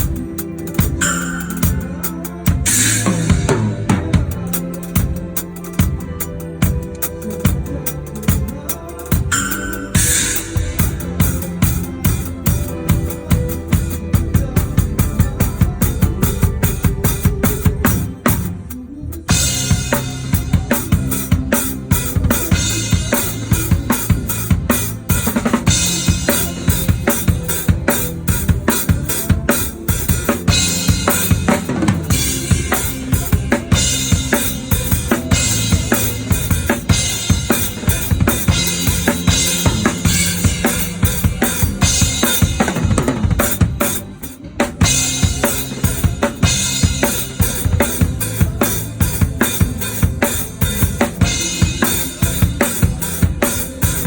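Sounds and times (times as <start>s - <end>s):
drum kit playing a groove: 0.0s - 54.0s.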